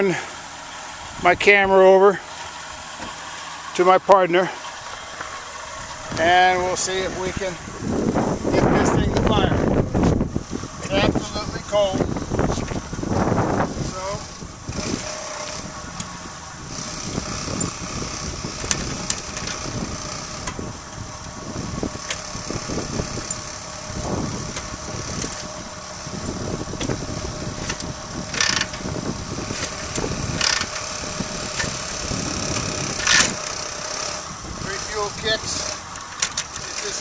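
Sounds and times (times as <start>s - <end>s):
kick-starter clanking: 0.0s - 37.0s
motorcycle engine turning over: 0.0s - 37.0s.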